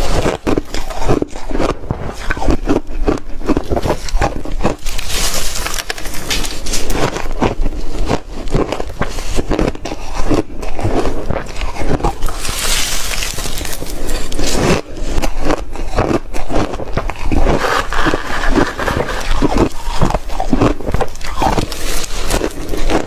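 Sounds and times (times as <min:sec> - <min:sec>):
ice being chewed: 0:00.0 - 0:23.0.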